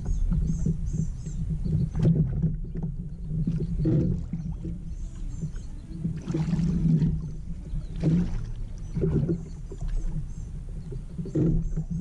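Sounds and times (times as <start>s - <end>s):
steady low rumble: 0.0s - 12.0s
water sloshing against kayak hull: 0.0s - 12.0s.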